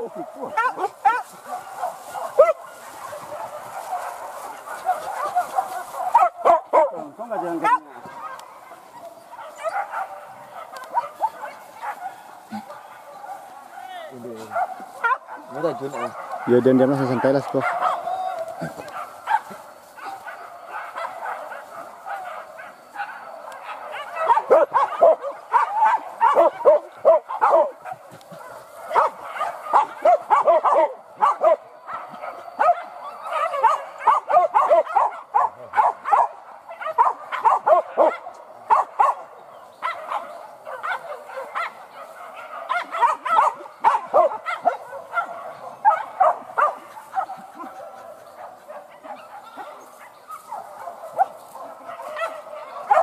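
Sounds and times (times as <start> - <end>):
dogs barking and yelping: 0.0 - 53.0.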